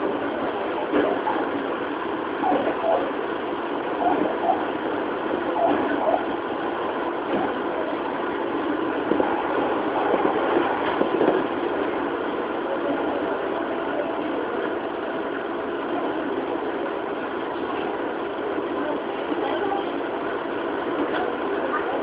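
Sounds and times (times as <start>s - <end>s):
train rolling rumble and hum: 0.0s - 22.0s.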